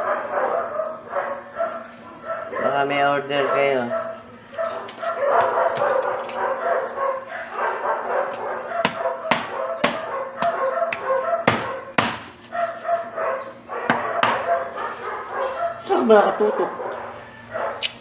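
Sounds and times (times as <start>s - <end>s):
dog barking: 0.0s - 17.9s.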